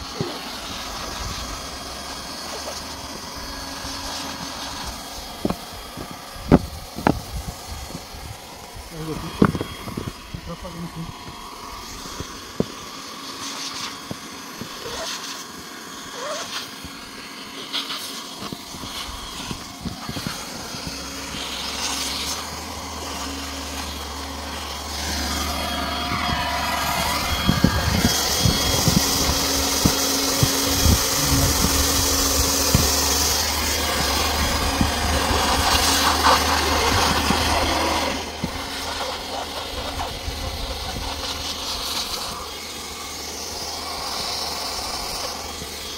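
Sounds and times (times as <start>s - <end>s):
hot-air gun fan hum with hiss: 0.0s - 45.9s.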